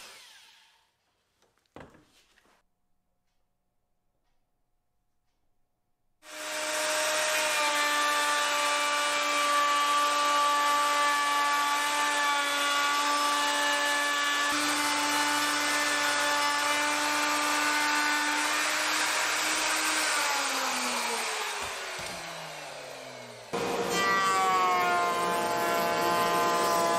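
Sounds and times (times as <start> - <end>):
router whining: 0.0 - 1.0, 6.2 - 26.9.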